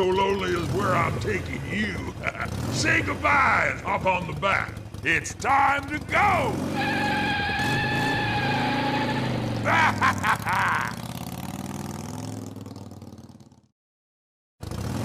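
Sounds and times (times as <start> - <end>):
motorcycle engine revving effect: 0.1 - 13.7, 14.6 - 15.0.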